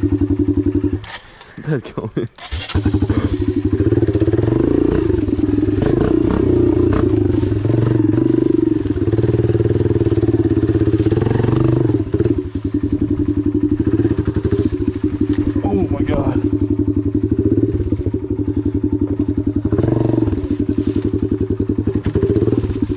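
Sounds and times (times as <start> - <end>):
dirt bike engine revving: 0.0 - 1.7, 2.4 - 22.9.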